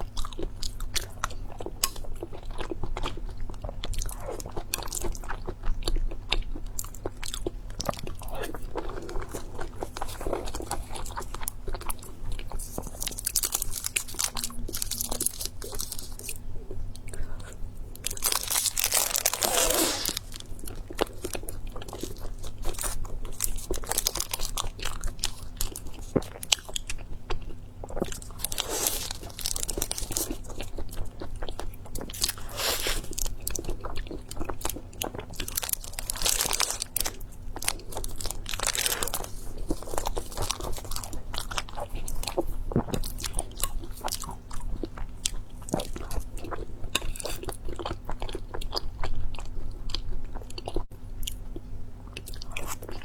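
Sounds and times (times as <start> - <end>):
person chewing crunchy food: 0.0 - 53.0.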